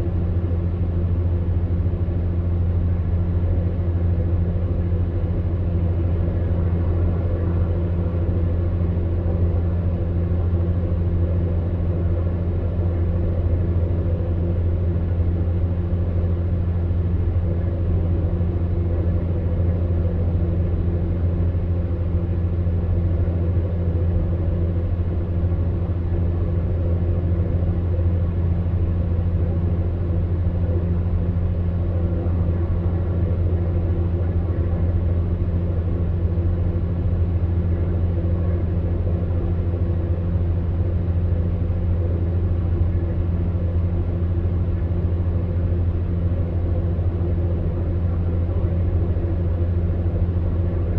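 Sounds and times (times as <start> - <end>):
fan heater motor hum: 0.0 - 50.9.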